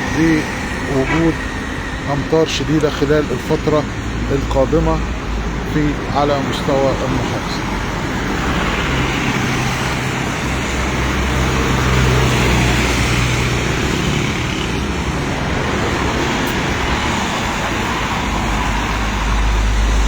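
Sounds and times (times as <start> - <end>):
road noise: 0.0 - 20.0
vehicles passing on wet road: 0.0 - 20.0.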